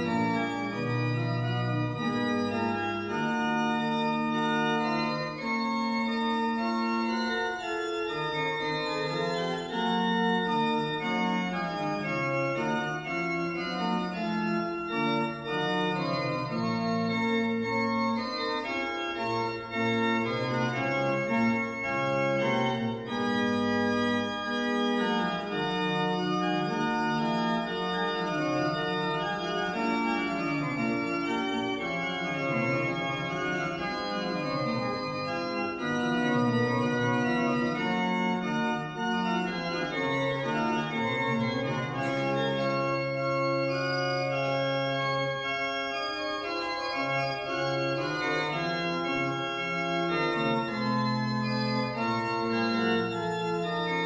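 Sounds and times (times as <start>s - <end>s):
pipe organ playing slow music: 0.0s - 54.0s.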